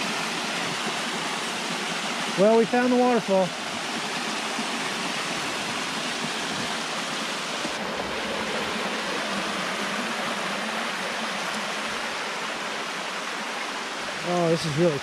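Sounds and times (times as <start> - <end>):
waterfall splashing: 0.0 - 15.0.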